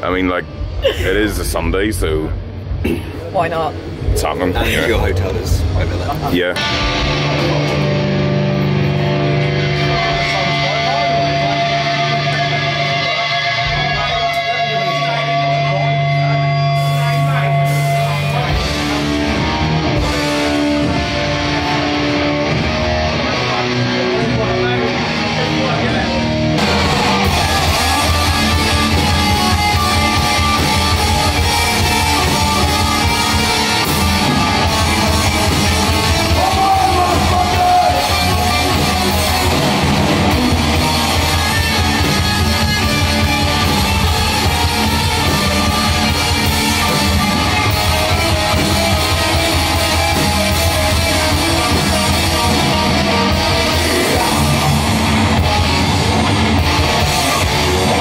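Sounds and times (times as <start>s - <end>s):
distorted electric guitars: 0.0s - 58.0s
metal music: 0.0s - 58.0s.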